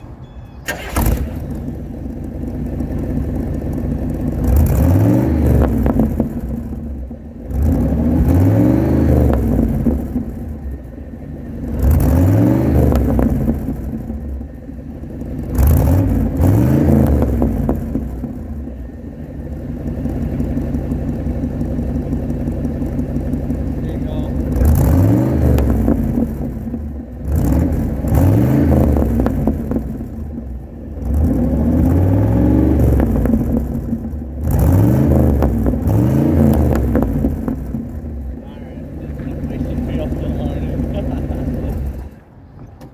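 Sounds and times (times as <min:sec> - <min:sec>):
car engine idling and revving: 0:00.0 - 0:42.9
exhaust crackles and pops: 0:00.6 - 0:42.9.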